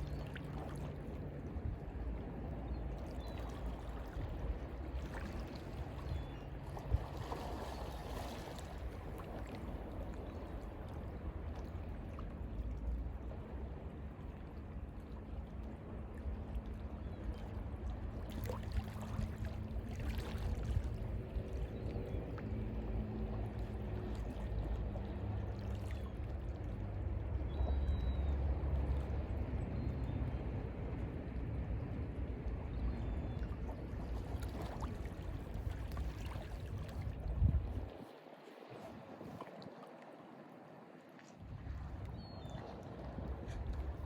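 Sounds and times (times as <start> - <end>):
water lapping against shore: 0.0 - 13.7, 17.3 - 44.0.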